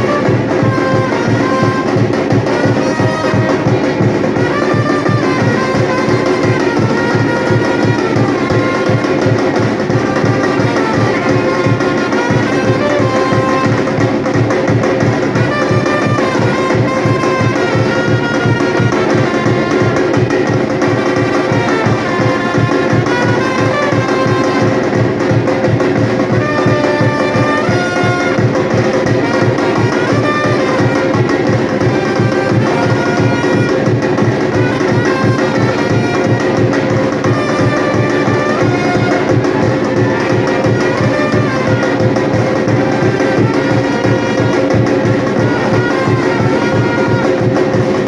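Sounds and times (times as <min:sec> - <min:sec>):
horn-like melody: 0:00.0 - 0:48.0
samba drum ensemble: 0:00.0 - 0:48.0.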